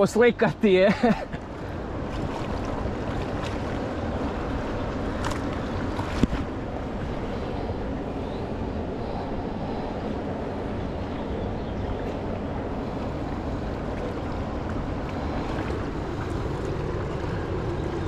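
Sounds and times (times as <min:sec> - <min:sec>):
river water rushing: 0:00.0 - 0:18.0
wind on microphone: 0:01.6 - 0:18.0.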